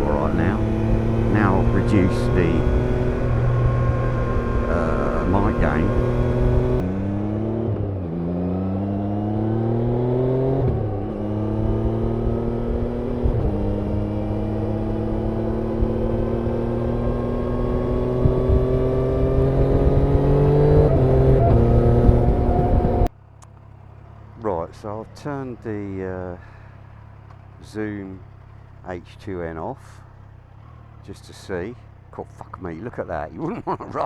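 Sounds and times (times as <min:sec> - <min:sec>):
motorcycle engine revving through gears: 0:00.0 - 0:34.0.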